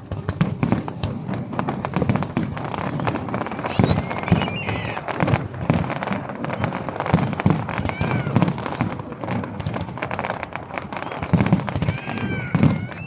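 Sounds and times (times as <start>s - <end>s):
fireworks bangs and crackles: 0.0s - 13.0s
fireworks whistling glides: 0.0s - 13.0s.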